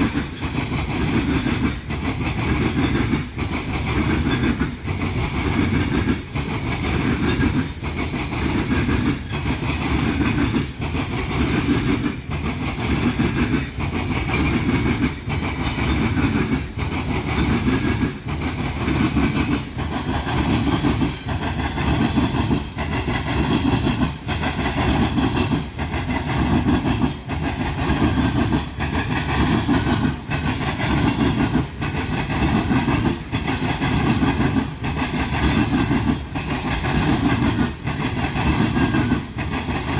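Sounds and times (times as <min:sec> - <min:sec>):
train rumble: 0:00.0 - 0:39.9
train wheels clattering: 0:00.0 - 0:39.9.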